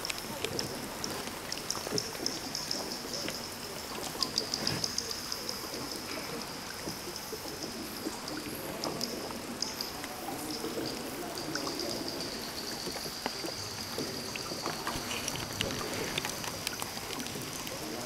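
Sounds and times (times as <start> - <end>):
water drips and small splashes: 0.0 - 18.0
water trickling and flowing: 0.0 - 18.0.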